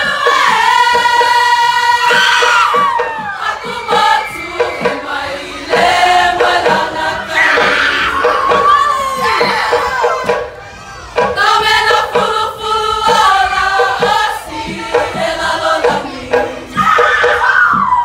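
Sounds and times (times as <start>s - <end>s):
girls' choir singing: 0.0s - 10.6s, 11.2s - 17.8s.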